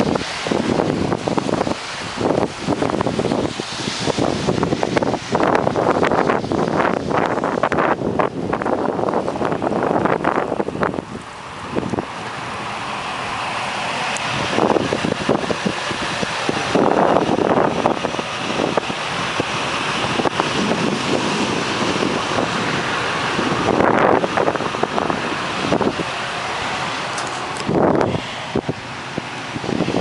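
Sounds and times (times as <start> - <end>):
diesel truck engine: 0.0 - 30.0
water rushing and splashing: 0.0 - 30.0
wind buffeting microphone: 0.0 - 30.0.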